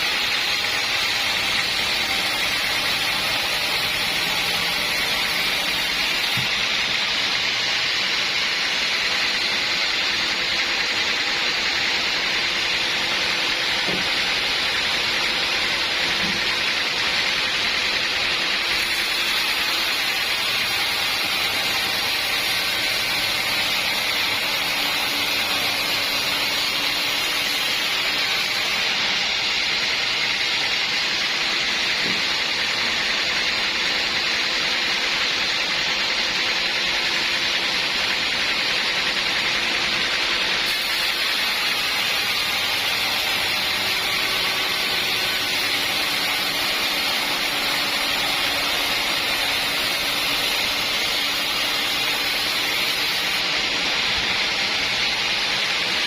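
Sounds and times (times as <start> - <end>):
sawmill machinery hissing: 0.0 - 56.0.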